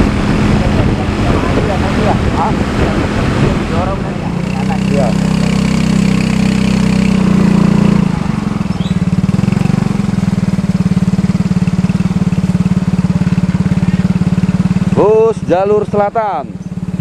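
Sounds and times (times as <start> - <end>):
bus engine throbbing: 0.0 - 17.0.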